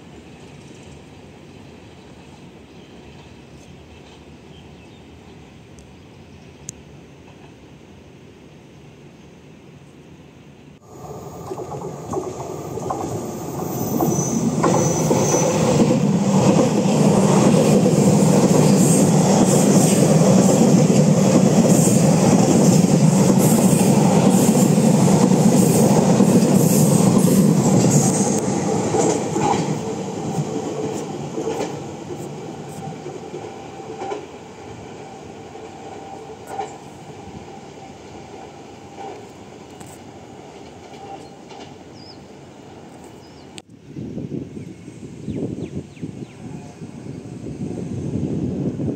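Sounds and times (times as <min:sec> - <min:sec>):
train rumbling past: 0:00.0 - 0:48.9.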